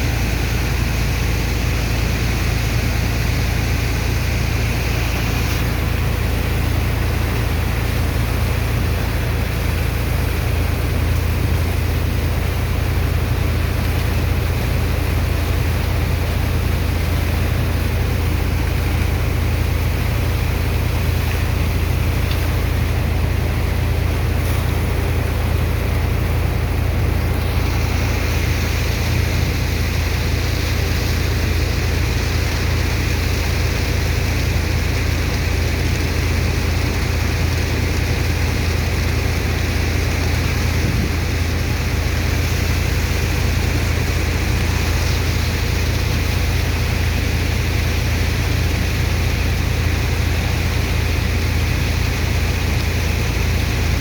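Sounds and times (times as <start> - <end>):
engine deep constant hum: 0.0 - 54.0
water pump rushing: 0.0 - 54.0.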